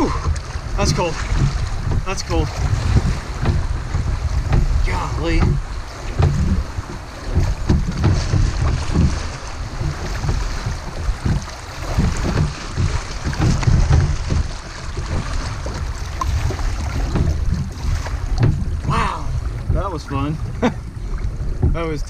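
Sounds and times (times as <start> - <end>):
kayak splashing: 0.0 - 22.0
rushing river water: 0.0 - 22.0
wind buffeting microphone: 0.0 - 22.0.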